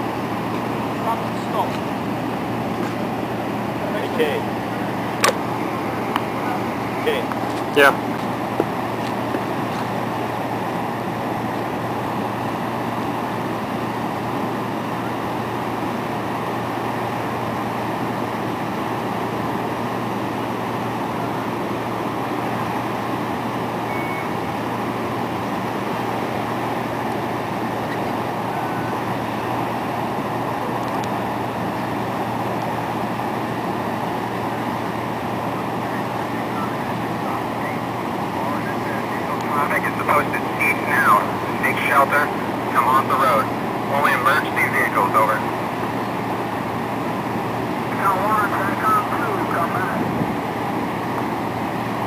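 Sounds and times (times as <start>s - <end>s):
low engine hum: 0.0s - 52.0s.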